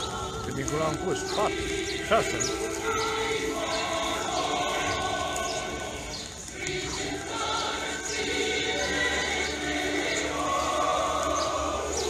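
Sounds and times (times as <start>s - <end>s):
choir singing a slow hymn: 0.0s - 12.0s.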